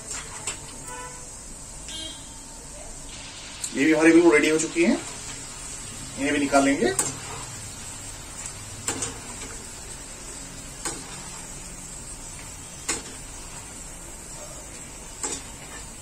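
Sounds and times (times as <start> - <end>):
frying oil sizzling: 0.0 - 16.0.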